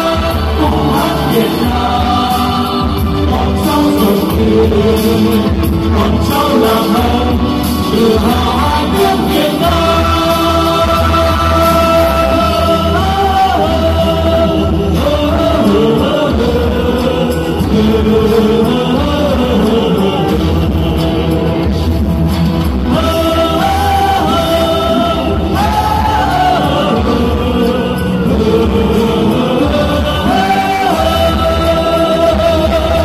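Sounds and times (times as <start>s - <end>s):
loud sung pop song with bass: 0.0s - 33.0s.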